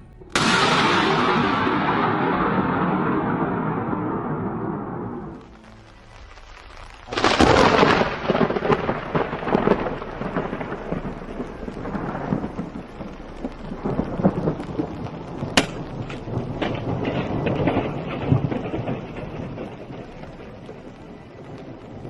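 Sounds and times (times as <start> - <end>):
rain hissing: 0.0 - 22.0
sharp thunder crack: 0.0 - 22.0
thunder clap and rumble: 0.0 - 22.0.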